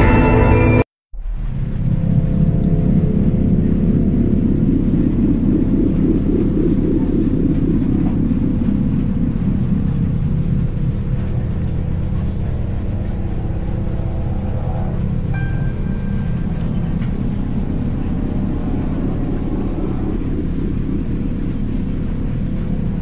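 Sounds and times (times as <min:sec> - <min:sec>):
music of deep low notes: 0:00.0 - 0:23.0.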